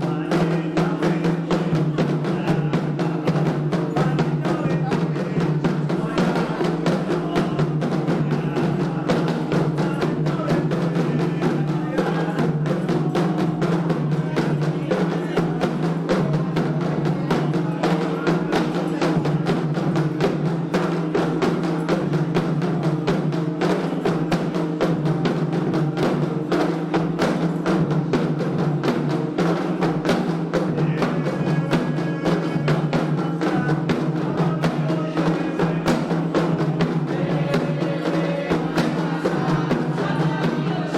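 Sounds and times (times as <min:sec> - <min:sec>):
hand drums beating fast rhythm: 0:00.0 - 0:40.9.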